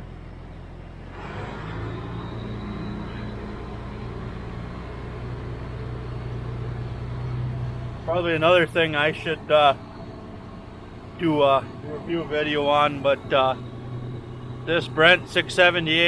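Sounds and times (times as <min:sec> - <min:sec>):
tractor engine droning: 0:00.0 - 0:16.0.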